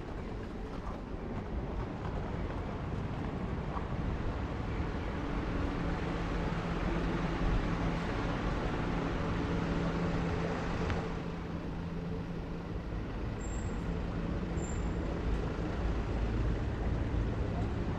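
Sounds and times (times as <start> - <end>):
road traffic noise: 0.0 - 17.9
vehicle engine humming close: 0.0 - 17.9.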